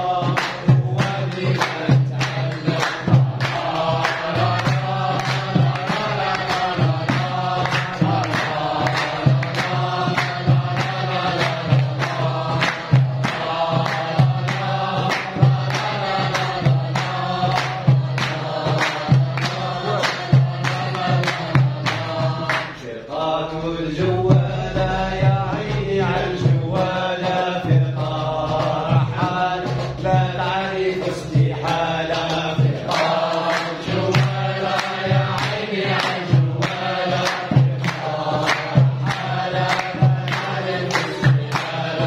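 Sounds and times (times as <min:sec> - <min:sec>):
hands clapping to a beat: 0:00.0 - 0:22.8, 0:28.0 - 0:42.0
men singing together: 0:00.0 - 0:42.0.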